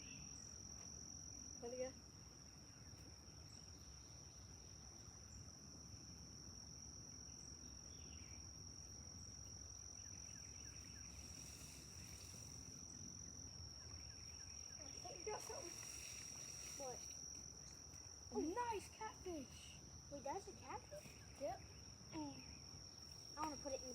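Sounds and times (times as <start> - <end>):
high-pitched insect trill: 0.0 - 23.9.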